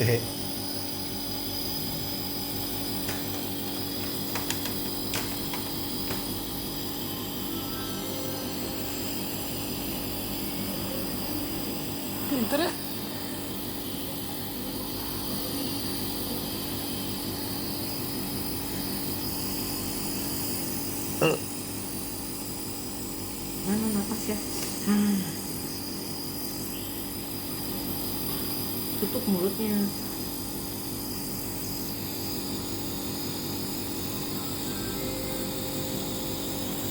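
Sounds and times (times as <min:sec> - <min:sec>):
small compressor humming: 0:00.0 - 0:36.9.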